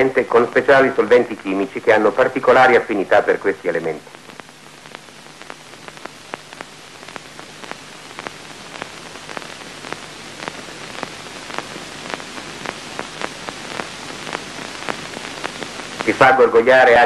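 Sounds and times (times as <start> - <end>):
film soundtrack hiss with clicks: 0.0 - 17.0.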